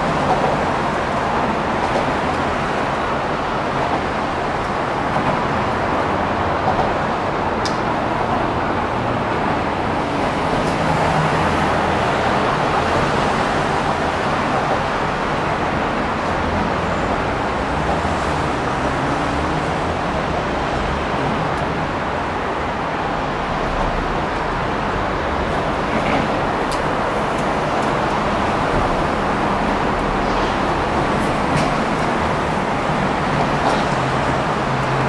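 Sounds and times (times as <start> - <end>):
steady road traffic: 0.0 - 35.0.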